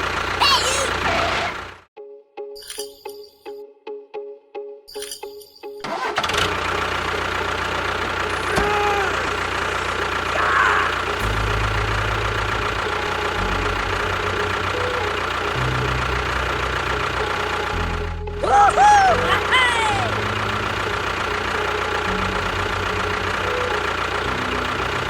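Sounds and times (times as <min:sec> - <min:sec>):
small engine chugging: 0:00.0 - 0:01.9, 0:05.8 - 0:25.0.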